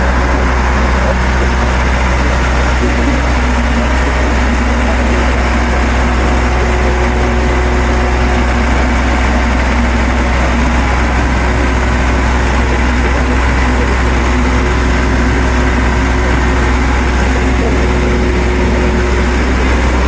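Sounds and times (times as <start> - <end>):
generator engine humming: 0.0 - 20.0.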